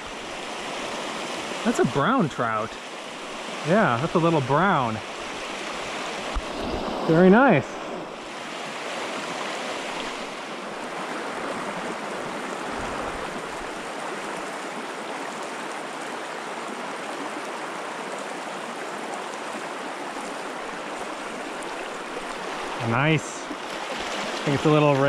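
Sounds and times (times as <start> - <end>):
creek water flowing over rocks: 0.0 - 25.0.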